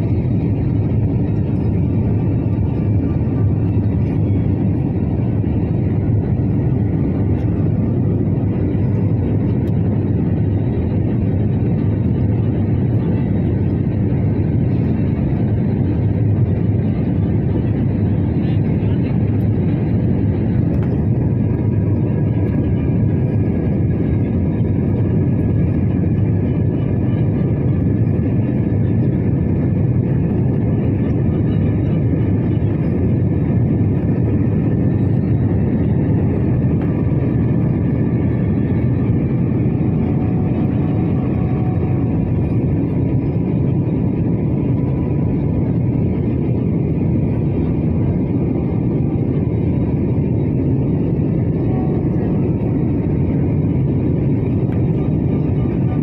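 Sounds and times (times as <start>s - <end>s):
faint steady whine: 0.0s - 56.0s
jet engine roar in cabin: 0.0s - 56.0s.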